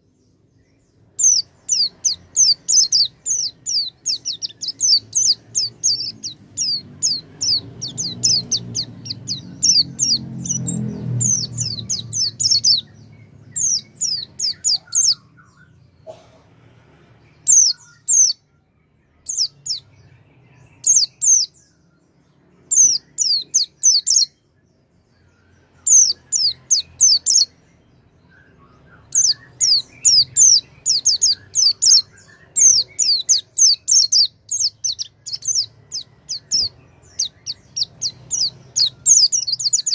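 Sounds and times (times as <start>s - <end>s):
bird song rapid high chirps: 0.0s - 16.1s, 16.8s - 39.9s.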